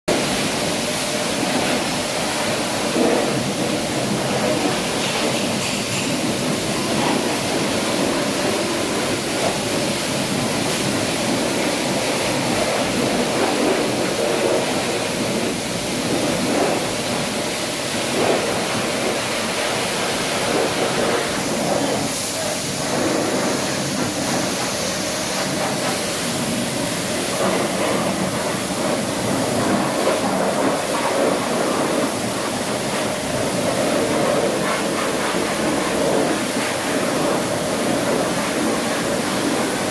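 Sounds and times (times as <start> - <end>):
water spray rushing: 0.1 - 39.9.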